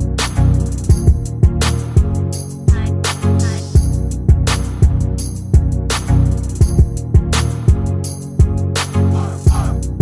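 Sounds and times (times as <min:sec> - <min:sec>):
sustained bass and chords: 0:00.0 - 0:10.0
kick drum and snare beat: 0:00.2 - 0:10.0.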